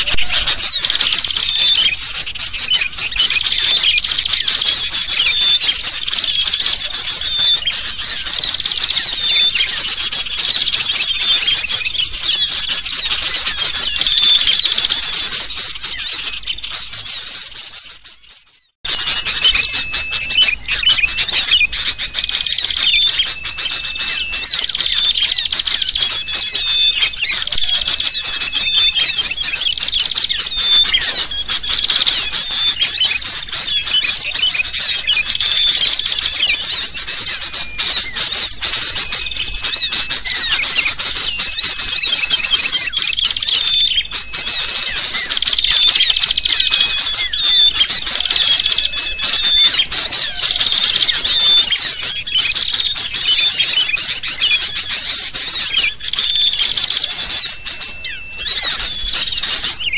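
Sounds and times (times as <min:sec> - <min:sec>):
agitated bulbul calls: 0:00.0 - 0:59.9
small birds chirping: 0:00.0 - 0:59.9.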